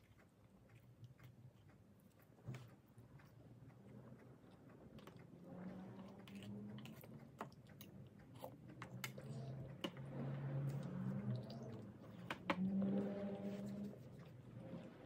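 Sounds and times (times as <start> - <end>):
person chewing food: 0.0 - 14.9
faint low hum: 0.0 - 15.0.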